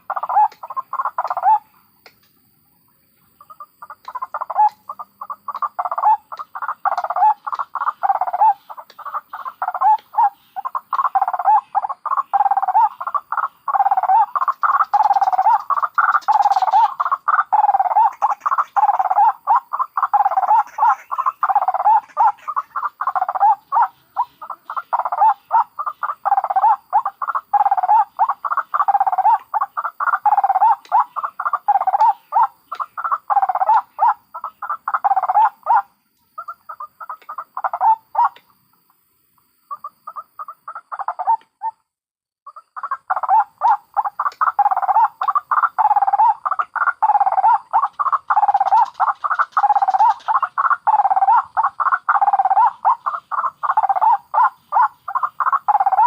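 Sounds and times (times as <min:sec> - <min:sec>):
waterhens rapid cackling calls: 0:00.0 - 0:01.8, 0:03.4 - 0:38.4, 0:39.7 - 0:41.8, 0:42.5 - 0:56.0.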